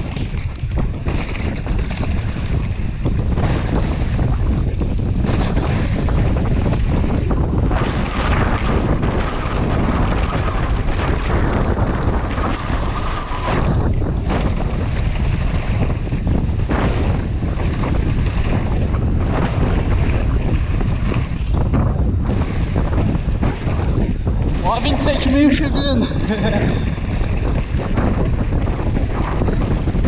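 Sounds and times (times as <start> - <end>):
bike rattling over bumps: 0.0 - 30.0
tyres rumbling on dirt trail: 0.0 - 30.0
wind rushing over microphone: 0.0 - 30.0.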